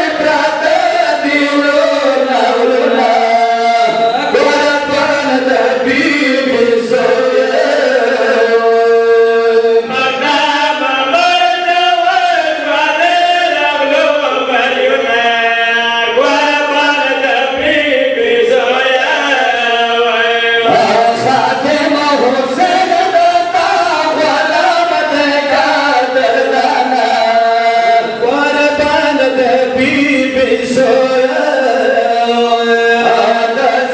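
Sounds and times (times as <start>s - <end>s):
men chanting a lament: 0.0s - 33.9s.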